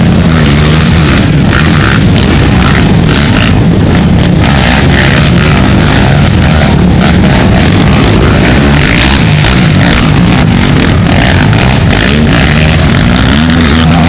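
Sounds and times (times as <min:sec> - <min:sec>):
atv engines revving hard: 0:00.0 - 0:14.0.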